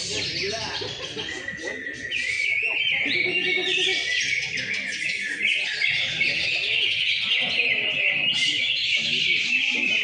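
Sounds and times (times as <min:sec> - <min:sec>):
birds whistling and trilling: 0:00.0 - 0:10.0.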